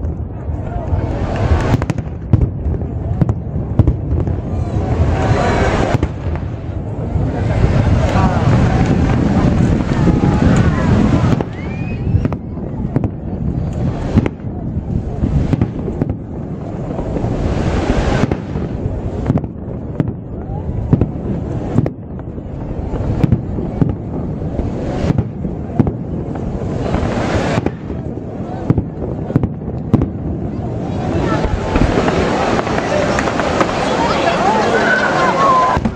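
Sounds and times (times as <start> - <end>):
fireworks bursting with bangs: 0.0 - 35.9
fireworks crackle and rumble: 0.0 - 35.9.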